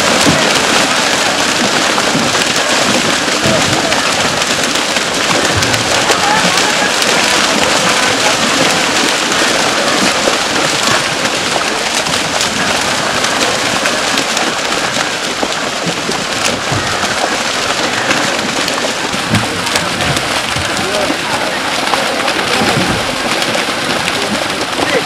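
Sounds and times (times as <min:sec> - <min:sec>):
fish thrashing and splashing: 0:00.0 - 0:25.0.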